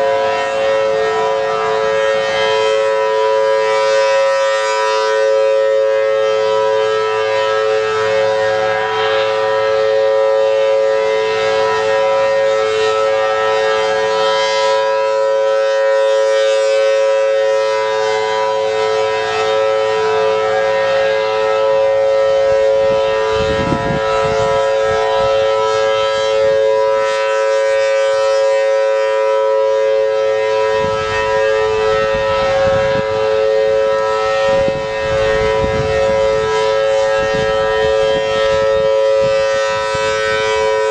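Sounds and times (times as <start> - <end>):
warning siren steady wail: 0.0 - 40.9.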